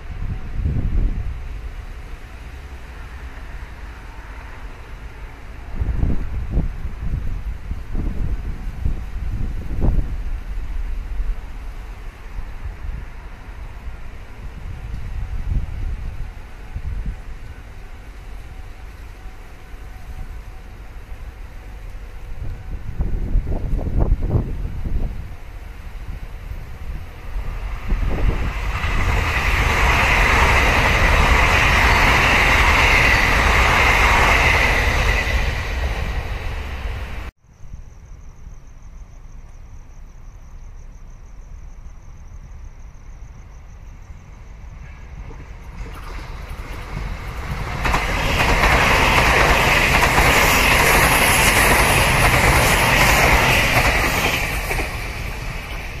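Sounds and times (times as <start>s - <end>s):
train passing at speed: 0.0s - 37.4s, 41.7s - 56.0s.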